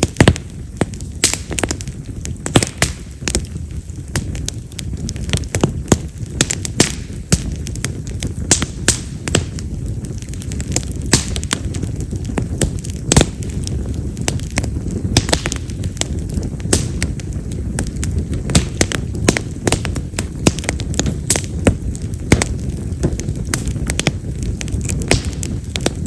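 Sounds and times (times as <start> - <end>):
firewood crackling and popping: 0.0 - 26.0
low rumble of flame: 0.0 - 26.0.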